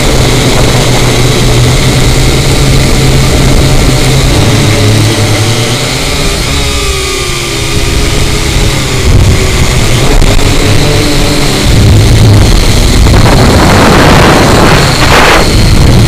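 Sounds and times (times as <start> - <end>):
drone motor whine: 0.0 - 16.0
wind buffeting on microphone: 0.0 - 16.0.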